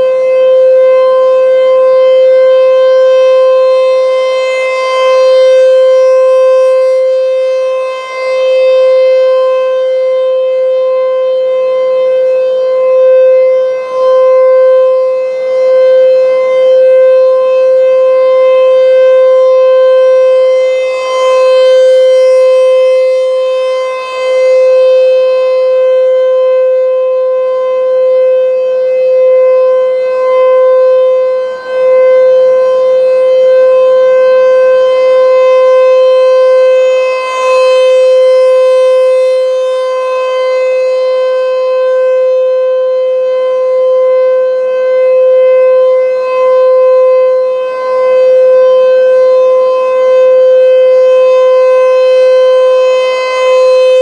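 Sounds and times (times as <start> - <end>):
rotating warning siren: 0.0 - 54.0.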